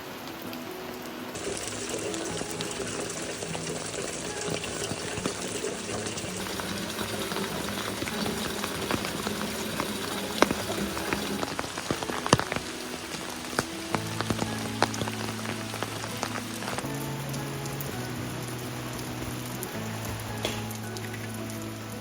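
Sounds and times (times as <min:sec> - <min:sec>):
rain pattering: 0:00.0 - 0:22.0
soft background music: 0:00.0 - 0:22.0.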